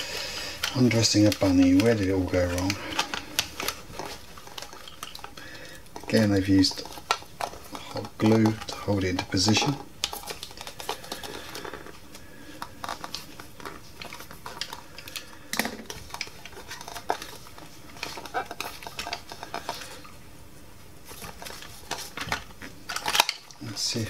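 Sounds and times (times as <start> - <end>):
hands clicking and rustling on toy: 0.0 - 20.1, 21.0 - 24.0.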